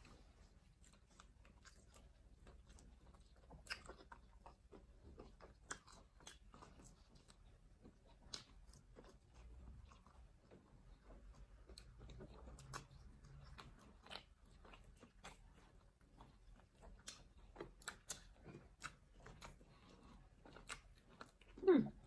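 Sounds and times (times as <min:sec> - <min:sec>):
people chewing: 0:00.0 - 0:22.0.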